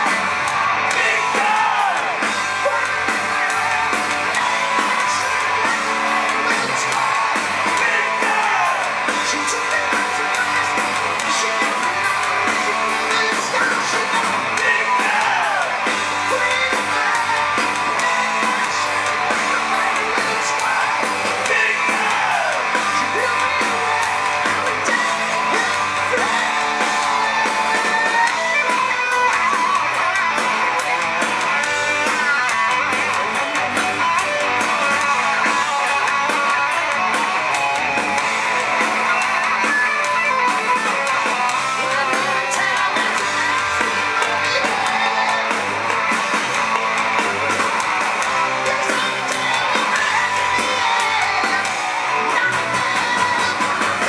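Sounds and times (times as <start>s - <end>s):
hard rock band playing live: 0.0s - 54.0s.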